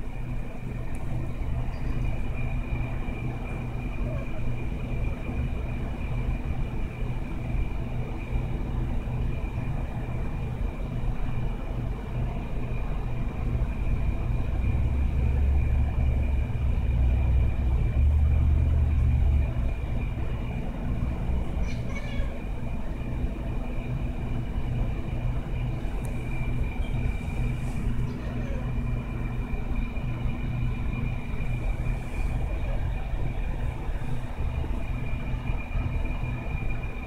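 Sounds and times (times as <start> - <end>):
faint high whine: 0.0 - 37.0
steady low rumble: 0.0 - 37.0.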